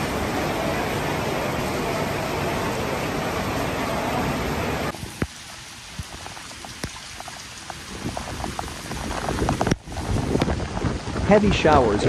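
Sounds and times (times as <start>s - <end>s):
heavy rain on a flooded road: 0.0s - 12.0s
raindrops striking: 0.0s - 12.0s
rushing water: 0.0s - 12.0s.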